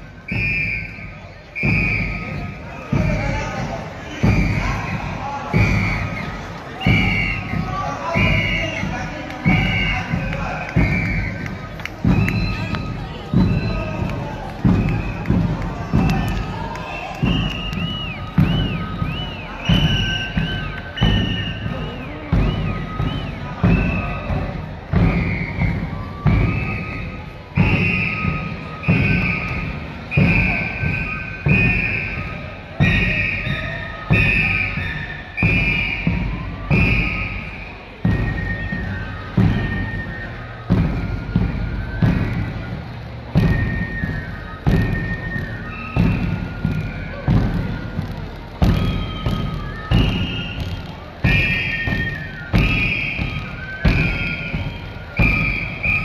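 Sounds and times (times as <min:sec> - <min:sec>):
high-pitched cane flute melody: 0:00.0 - 0:56.0
large drum beaten slowly: 0:00.0 - 0:56.0.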